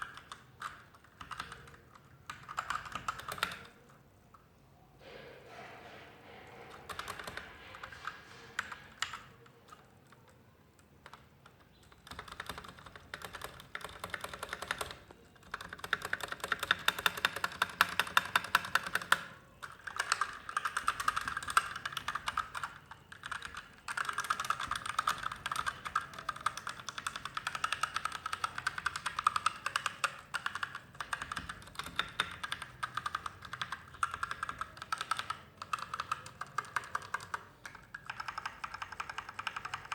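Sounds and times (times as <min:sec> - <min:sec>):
mechanical keyboard typing: 0:00.0 - 0:04.0, 0:06.4 - 0:39.9.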